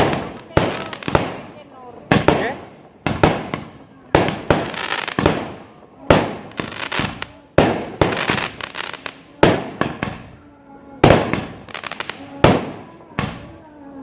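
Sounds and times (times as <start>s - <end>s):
fireworks crackling pops: 0.0s - 10.4s, 11.0s - 13.6s
fireworks bangs: 0.0s - 13.7s.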